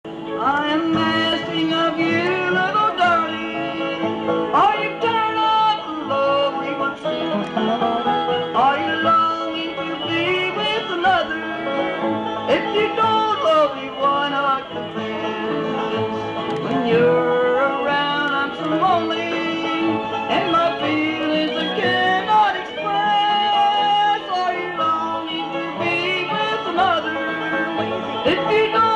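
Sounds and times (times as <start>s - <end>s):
banjo picking: 0.1s - 28.9s
fiddle with sliding notes: 0.1s - 28.9s
guitar picking: 0.1s - 28.9s.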